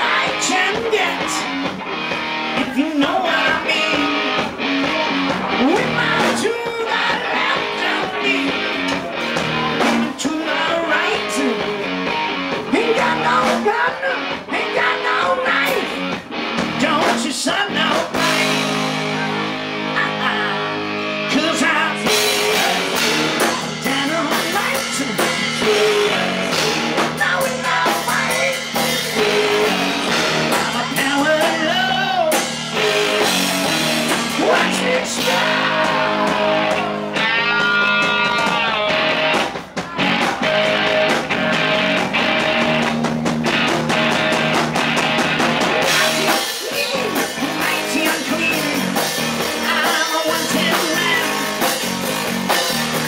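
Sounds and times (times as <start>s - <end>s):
drum kit: 0.0s - 53.0s
electric guitars: 0.0s - 53.0s
male lead singer: 0.0s - 53.0s.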